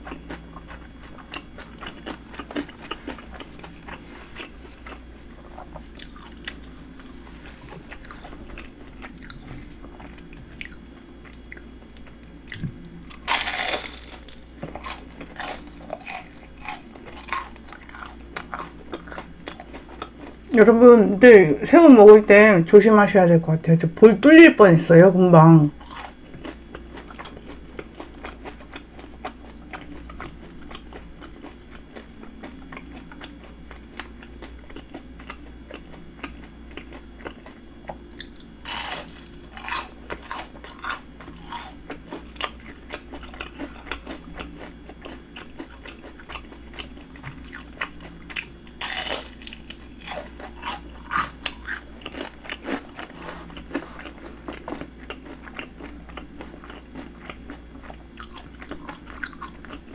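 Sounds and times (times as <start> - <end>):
chewing crunchy fried shrimp: 0.0 - 21.0, 25.6 - 59.9.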